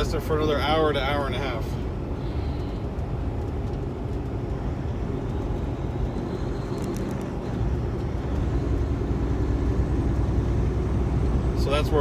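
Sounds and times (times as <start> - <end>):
road noise: 0.0 - 12.0
truck engine rumble: 0.0 - 12.0.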